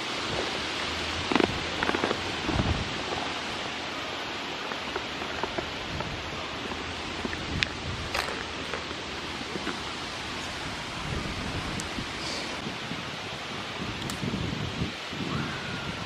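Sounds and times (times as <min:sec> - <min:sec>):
wind hiss on microphone: 0:00.0 - 0:16.0.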